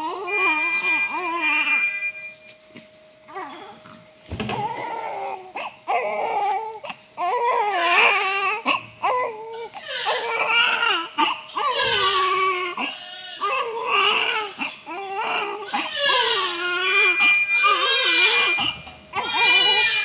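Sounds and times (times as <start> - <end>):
newborn baby crying: 0.0 - 1.9, 4.6 - 20.0.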